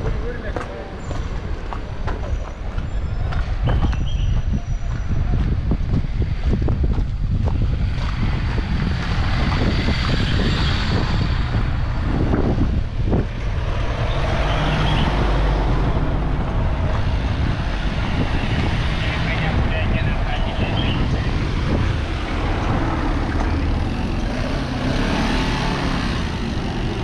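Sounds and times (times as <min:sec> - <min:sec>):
traffic noise: 0:00.0 - 0:27.0
wind on microphone: 0:00.0 - 0:27.0.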